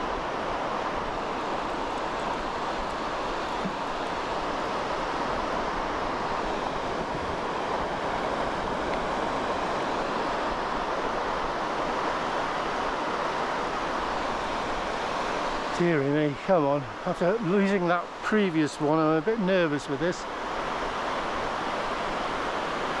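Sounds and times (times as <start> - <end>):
surf on a beach: 0.0 - 23.0
wind: 0.0 - 23.0.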